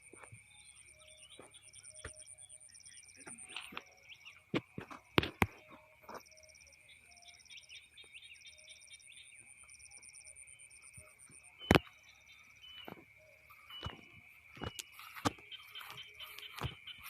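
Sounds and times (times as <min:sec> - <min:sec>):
birds chirping: 0:00.0 - 0:17.0
insect-like trill and drone: 0:00.0 - 0:17.0.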